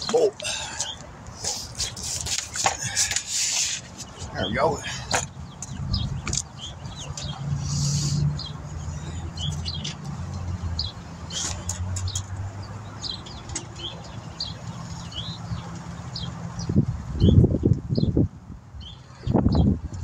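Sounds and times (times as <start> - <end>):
small birds chirping: 0.0 - 18.2, 18.8 - 20.0.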